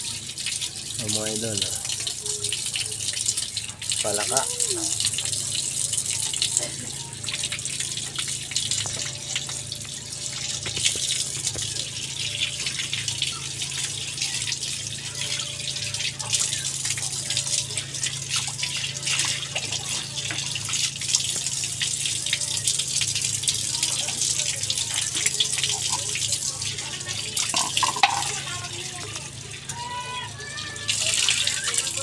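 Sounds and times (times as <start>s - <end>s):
hose water on concrete: 0.0s - 32.0s.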